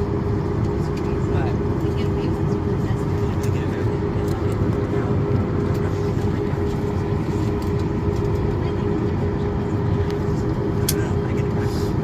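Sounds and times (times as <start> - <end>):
airliner cabin rumble: 0.0 - 12.0
constant hum: 0.0 - 12.0.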